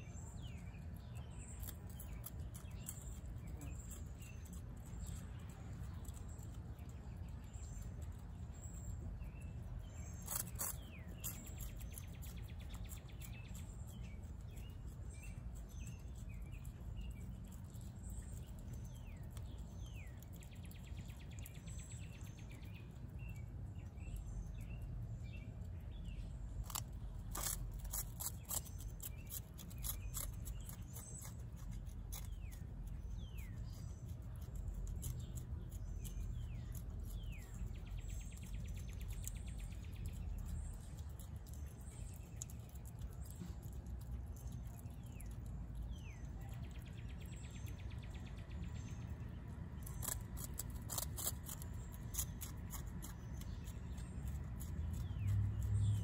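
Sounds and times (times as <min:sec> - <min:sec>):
birds chirping: 0:00.0 - 0:56.0
animal chewing and crunching: 0:00.1 - 0:56.0.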